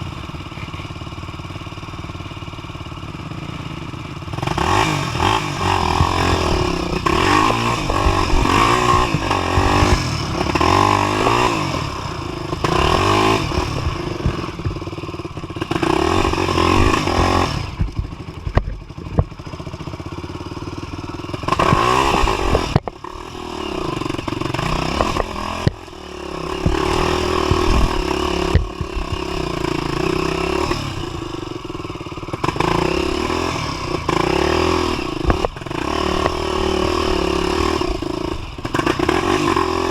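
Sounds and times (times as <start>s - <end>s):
motorcycle engine revving: 0.0s - 39.9s
motorcycle knocking and rattling: 0.0s - 39.9s.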